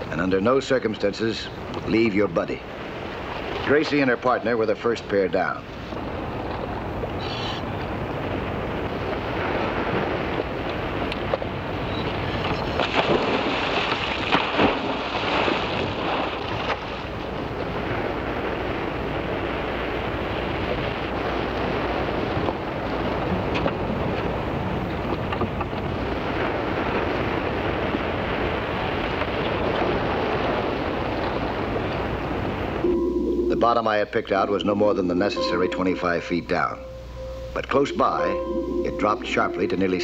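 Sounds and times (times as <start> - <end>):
wind buffeting microphone: 0.0 - 33.7
boat noise: 0.0 - 40.0
open sea wash: 0.0 - 40.0
water splashing: 1.7 - 34.0.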